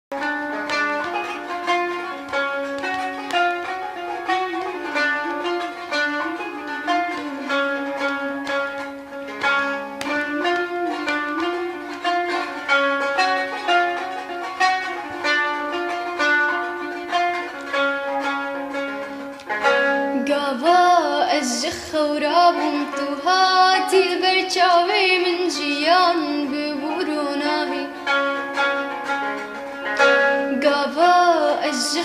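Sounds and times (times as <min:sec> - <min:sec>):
plucked string instrument: 0:00.1 - 0:32.0.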